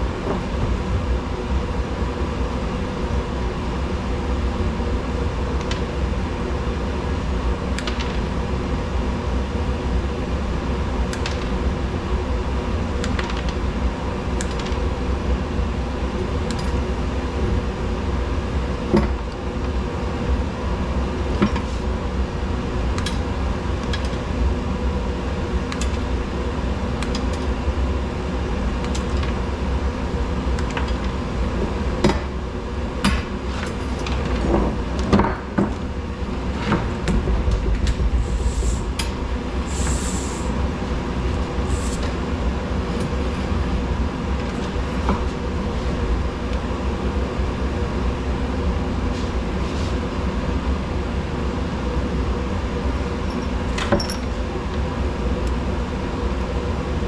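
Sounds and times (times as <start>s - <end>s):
mechanical hum and rumble: 0.0s - 57.0s.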